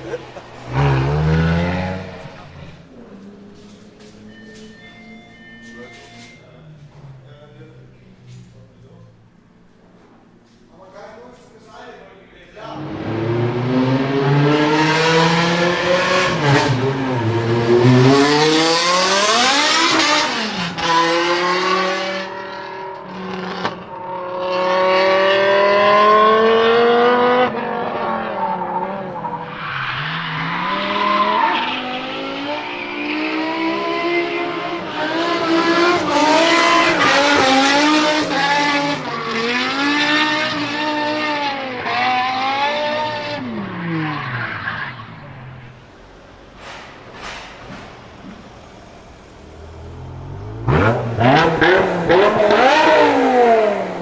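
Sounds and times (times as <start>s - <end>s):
car engine revving: 0.0s - 3.8s, 12.6s - 54.0s.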